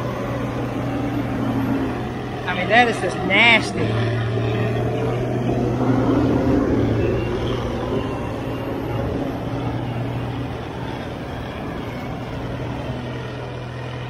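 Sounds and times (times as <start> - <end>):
heavy diesel engines under load: 0.0 - 14.0.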